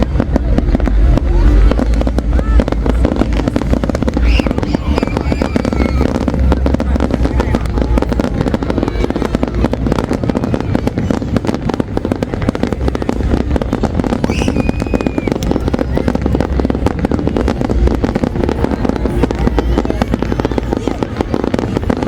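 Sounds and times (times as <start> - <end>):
fireworks bangs and crackles: 0.0 - 22.0
low rumble: 0.0 - 22.0.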